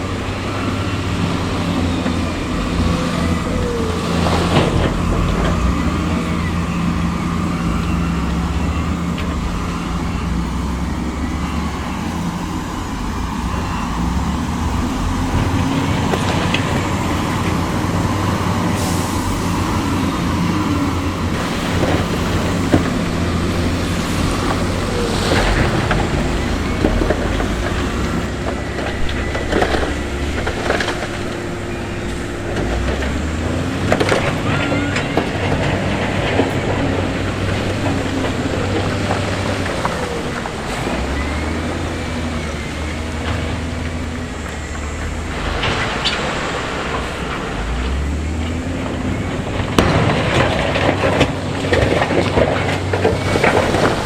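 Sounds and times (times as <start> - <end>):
heavy machinery diesel engines: 0.0 - 54.0.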